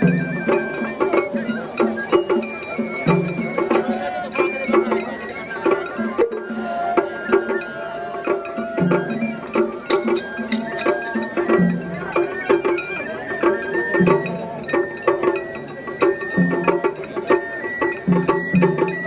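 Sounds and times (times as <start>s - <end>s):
music with struck percussion: 0.0s - 19.0s.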